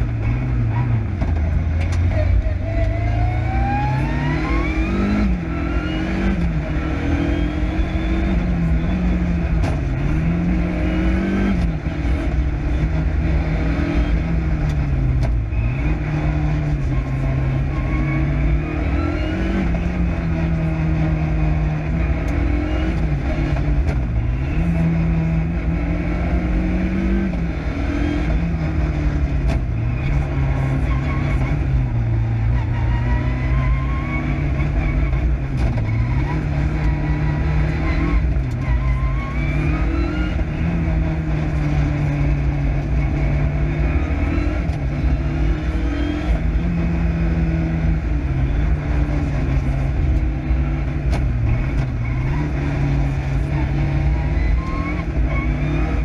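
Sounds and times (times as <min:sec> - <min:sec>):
car engine revving hard: 0:02.8 - 0:56.0.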